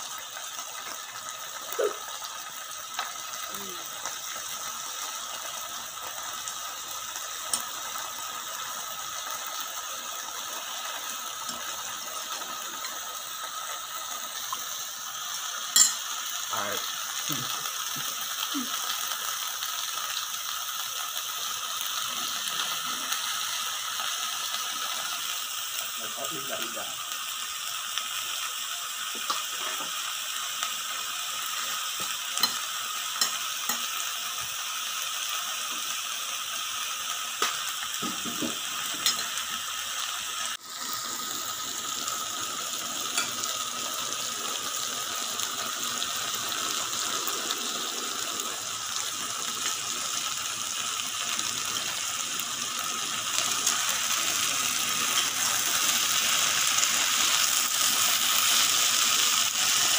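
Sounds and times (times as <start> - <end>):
meat and vegetables sizzling: 0.0 - 59.9.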